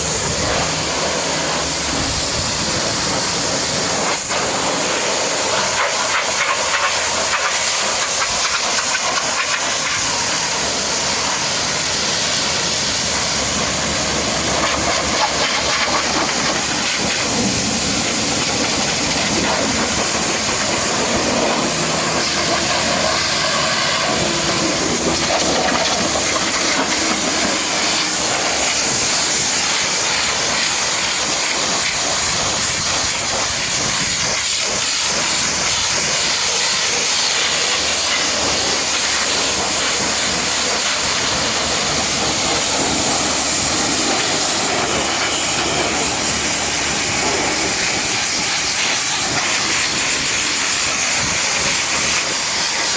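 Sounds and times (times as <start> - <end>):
high-pressure water jet spraying: 0.0 - 52.9.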